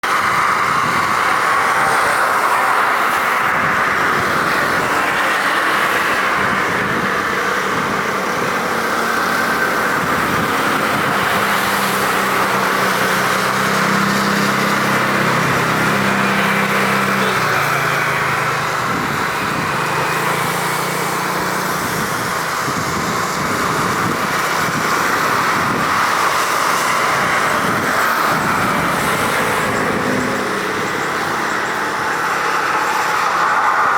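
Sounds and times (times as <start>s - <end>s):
jet engine noise: 0.0s - 33.9s.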